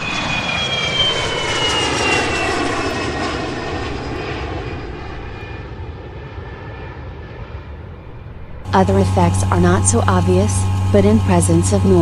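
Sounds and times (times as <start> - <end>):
aeroplane passing overhead: 0.0 - 12.0.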